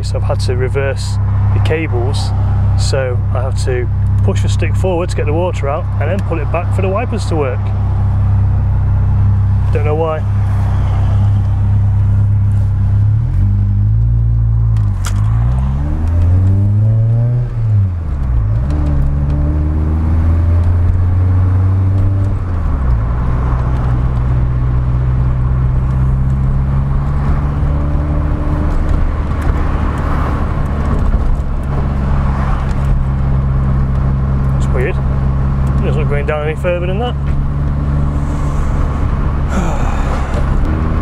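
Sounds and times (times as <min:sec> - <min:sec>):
car engine accelerating through gears: 0:01.2 - 0:41.0.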